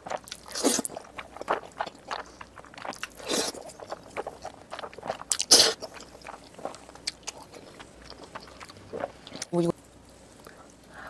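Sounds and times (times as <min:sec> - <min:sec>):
slurping noodles: 0:00.0 - 0:09.4
wet chewing and smacking: 0:00.0 - 0:09.6.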